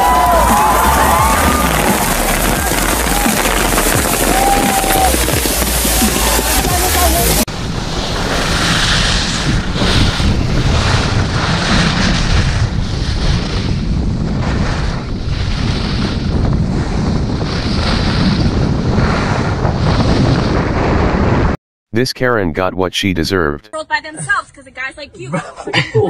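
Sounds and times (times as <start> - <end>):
wind rushing over microphone: 0.0 - 21.6.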